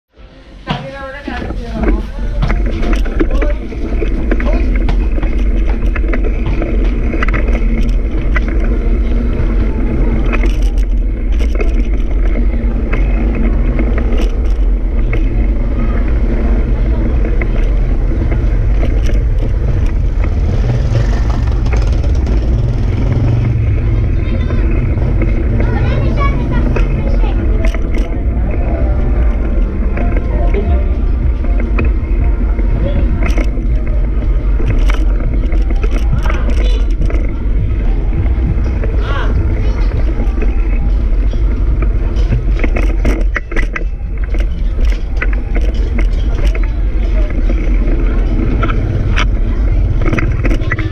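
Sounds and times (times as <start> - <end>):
wind buffeting microphone: 0.6 - 50.9
light clicks and rattles: 1.2 - 50.9.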